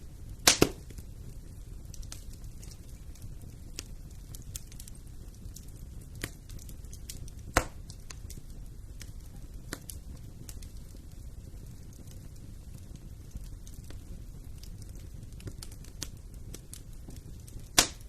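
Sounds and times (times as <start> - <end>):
fire pop: 0.0 - 18.0
wood fire crackling: 0.0 - 18.0.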